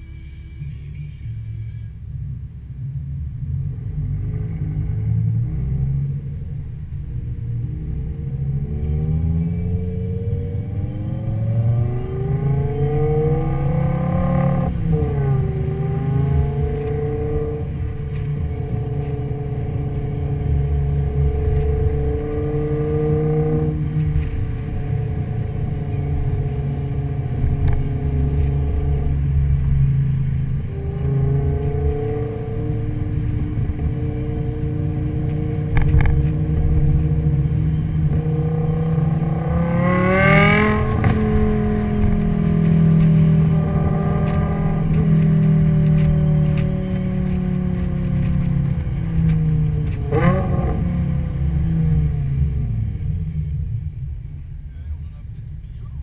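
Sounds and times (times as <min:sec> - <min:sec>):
low road rumble: 0:00.0 - 0:56.0
car engine accelerating through gears: 0:03.3 - 0:54.6.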